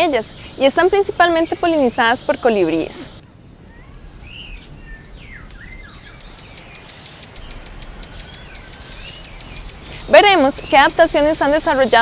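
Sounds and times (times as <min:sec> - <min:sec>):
birds chirping: 0:00.0 - 0:12.0
thin steady high tone: 0:00.0 - 0:12.0.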